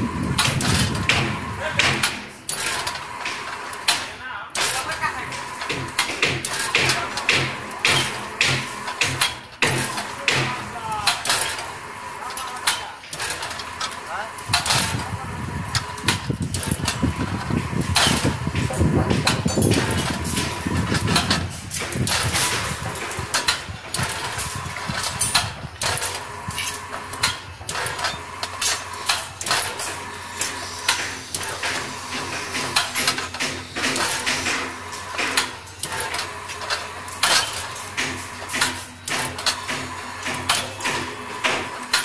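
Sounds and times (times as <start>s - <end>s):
bending machine humming: 0.0s - 42.0s
steel bar clanking on metal: 0.4s - 15.1s, 17.9s - 42.0s.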